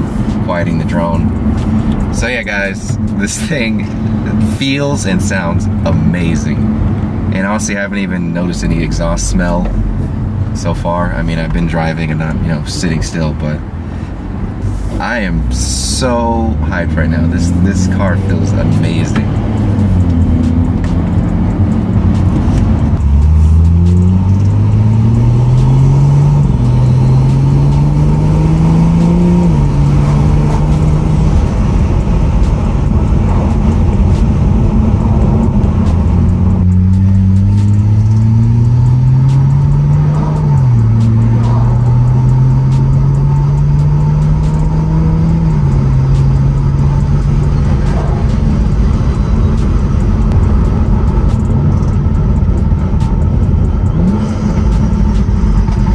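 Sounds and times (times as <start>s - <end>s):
car engine accelerating and upshifting: 0.0s - 55.9s.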